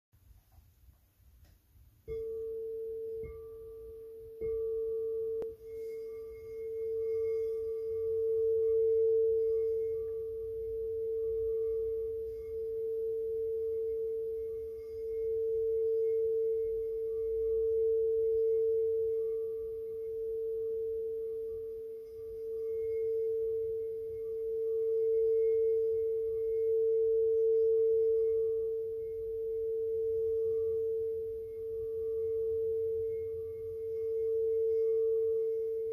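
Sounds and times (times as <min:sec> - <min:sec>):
singing bowl tone: 0:01.8 - 0:35.9.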